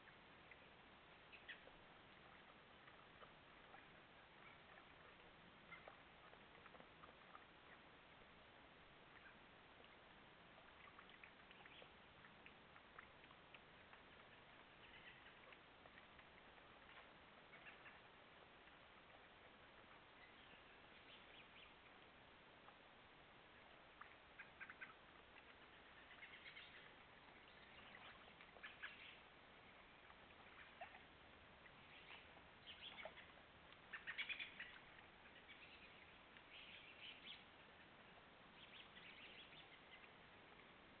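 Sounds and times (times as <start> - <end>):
faint high-pitched clicks and chirps: 0.0 - 41.0
microphone hiss: 0.0 - 41.0.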